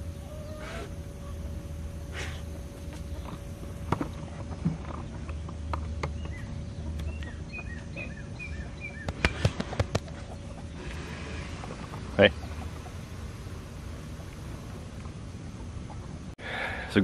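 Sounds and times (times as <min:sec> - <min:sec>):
bird chirping: 0:00.0 - 0:16.2
faint steady hum: 0:00.0 - 0:17.0.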